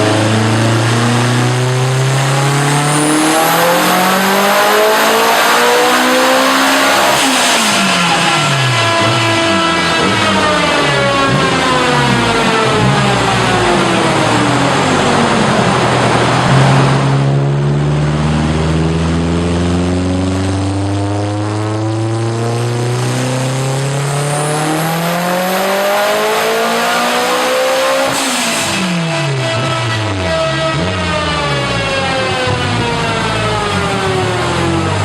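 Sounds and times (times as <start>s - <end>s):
car engine revving on a dyno: 0.0s - 35.0s.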